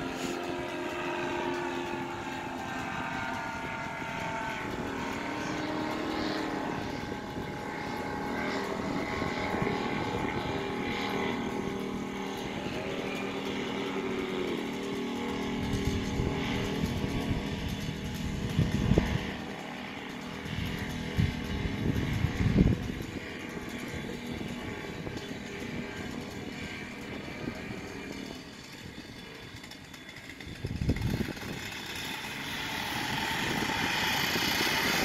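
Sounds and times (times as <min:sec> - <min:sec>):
paramotor engine and propeller: 0:00.0 - 0:35.0.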